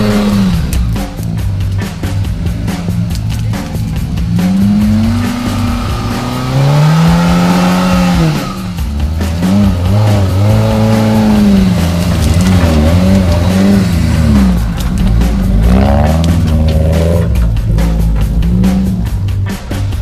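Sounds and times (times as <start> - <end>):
off-road engine revving: 0.0 - 20.0
rock music: 0.0 - 20.0.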